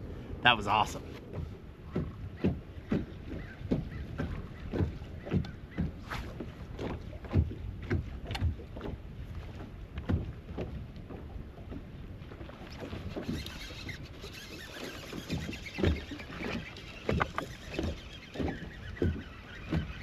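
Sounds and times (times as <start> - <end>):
waves slapping boat hull: 0.0 - 20.0.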